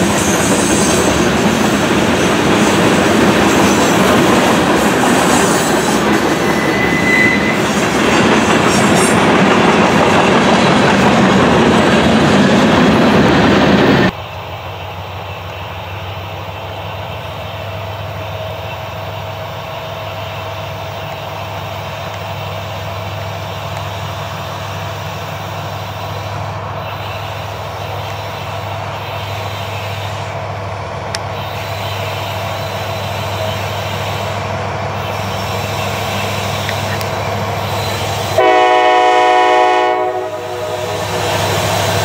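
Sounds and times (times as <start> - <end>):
locomotive engine hum: 0.0 - 42.0.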